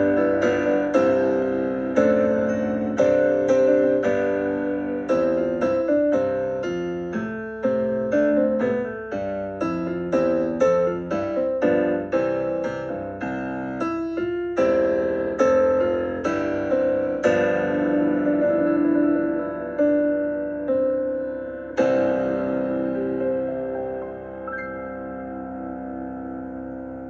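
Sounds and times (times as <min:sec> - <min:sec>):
solo piano music: 0:00.0 - 0:27.0.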